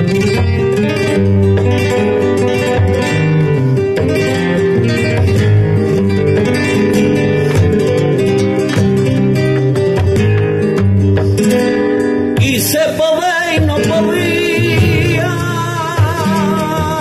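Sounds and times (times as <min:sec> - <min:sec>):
flamenco acoustic guitar strumming: 0:00.0 - 0:17.0.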